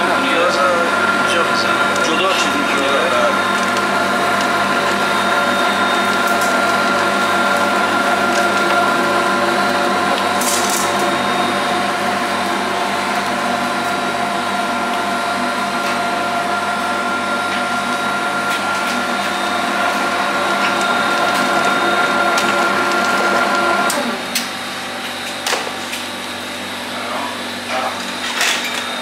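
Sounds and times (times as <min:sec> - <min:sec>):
electric meat grinder running: 0:00.0 - 0:26.7.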